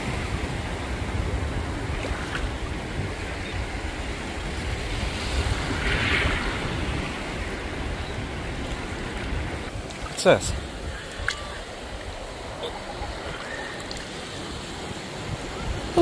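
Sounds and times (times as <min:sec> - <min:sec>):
ocean surf breaking: 0:00.0 - 0:16.0
wind rumble on microphone: 0:00.0 - 0:16.0.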